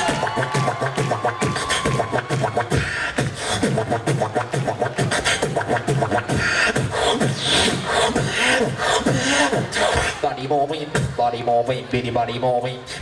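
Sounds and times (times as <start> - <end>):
beatboxing into a microphone: 0.0 - 13.0.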